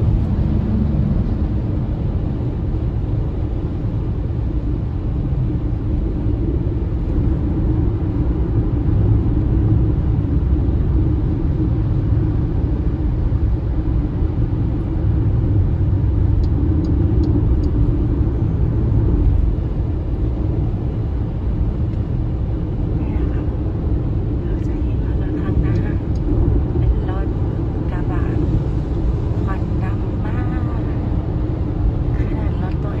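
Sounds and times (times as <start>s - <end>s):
car road and tyre rumble: 0.0s - 33.0s.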